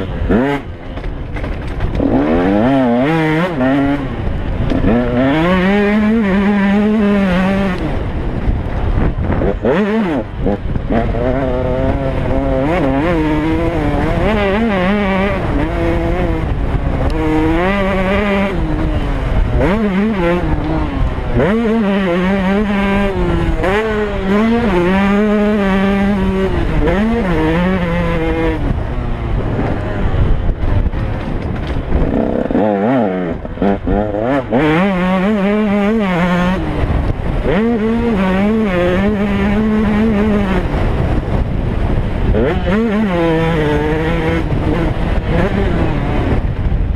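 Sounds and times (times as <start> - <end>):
motocross engine revving: 0.0 - 46.9
wind rumbling on microphone: 0.0 - 46.9.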